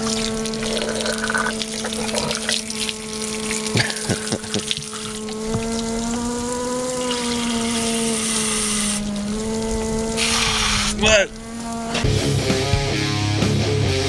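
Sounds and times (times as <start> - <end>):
hissing water spray: 0.0 - 12.1
pressure washer pump hum: 0.0 - 14.0.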